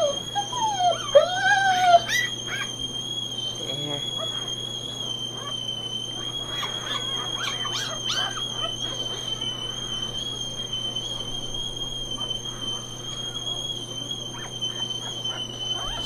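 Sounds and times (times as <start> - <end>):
kettle whistling: 0.0 - 16.0
puppies squeaking: 0.0 - 16.0.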